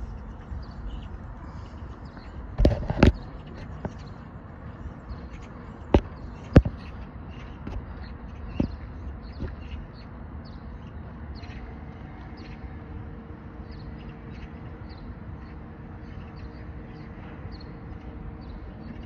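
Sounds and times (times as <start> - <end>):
faint steady hum: 0.0 - 19.0
low outdoor rumble: 0.0 - 19.0
small birds chirping: 0.0 - 19.0.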